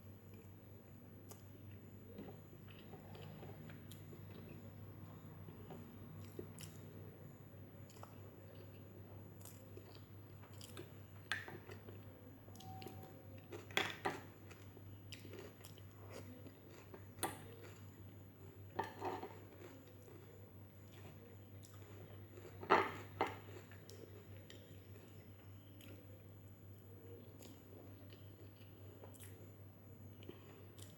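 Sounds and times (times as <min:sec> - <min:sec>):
person chewing food: 0:01.2 - 0:26.2, 0:27.0 - 0:29.5, 0:30.1 - 0:30.9.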